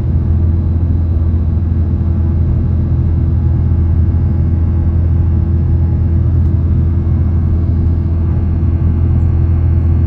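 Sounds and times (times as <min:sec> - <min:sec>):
jet engines deep rumble: 0:00.0 - 0:10.0
steady cabin hum: 0:00.0 - 0:10.0.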